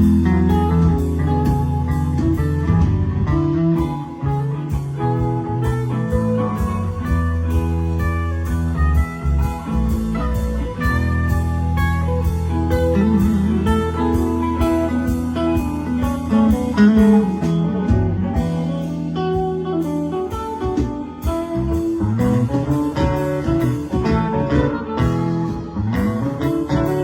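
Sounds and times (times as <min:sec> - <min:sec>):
bass guitar: 0:00.0 - 0:27.0
guitar lead: 0:00.0 - 0:27.0
steady drum beat: 0:00.0 - 0:27.0.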